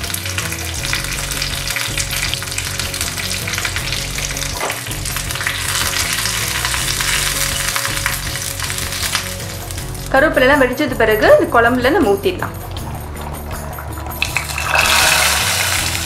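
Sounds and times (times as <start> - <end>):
leaves and chillies sizzling in oil: 0.0 - 12.4, 14.2 - 16.0.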